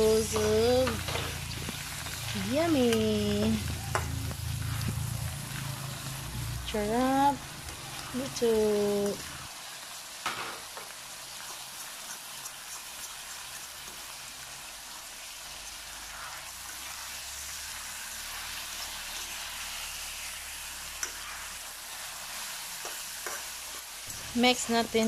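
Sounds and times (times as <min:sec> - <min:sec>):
chicken sizzling in wok: 0:00.0 - 0:25.0.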